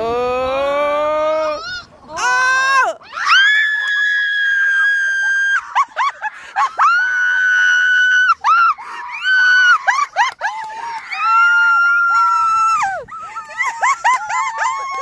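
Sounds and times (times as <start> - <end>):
girls yelping: 1.2 - 15.0
girls screaming with excitement: 1.5 - 15.0.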